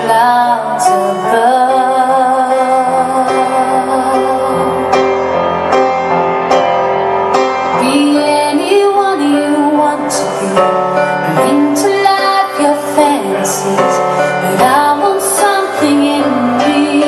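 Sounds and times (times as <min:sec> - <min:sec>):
woman singing: 0:00.0 - 0:05.0, 0:07.8 - 0:17.0.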